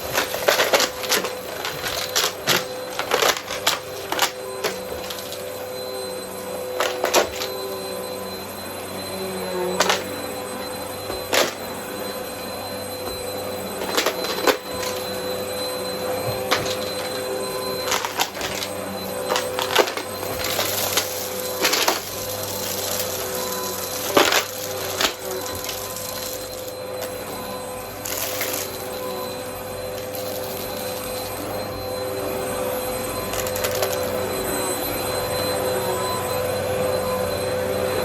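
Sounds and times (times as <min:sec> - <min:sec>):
vacuum cleaner whining: 0:00.0 - 0:38.0.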